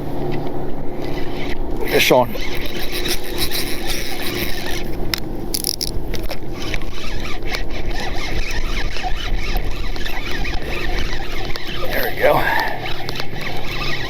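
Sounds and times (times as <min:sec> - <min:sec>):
wind noise on microphone: 0:00.0 - 0:14.0
fishing reel squeaking: 0:01.0 - 0:14.0.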